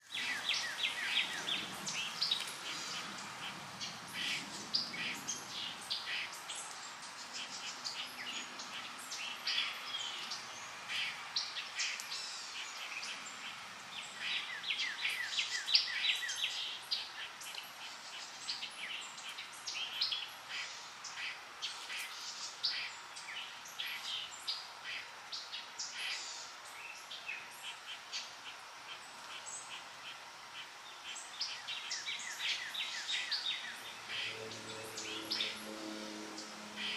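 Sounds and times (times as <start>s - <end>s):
small birds chirping and trilling: 0.0s - 36.9s.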